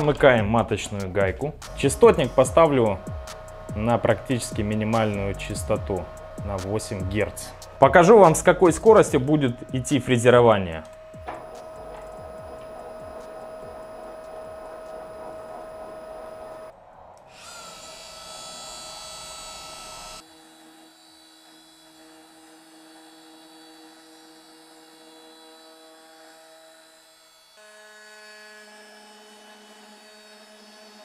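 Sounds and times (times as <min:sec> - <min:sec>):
router whining while milling metal: 0:01.6 - 0:16.7, 0:17.3 - 0:31.0.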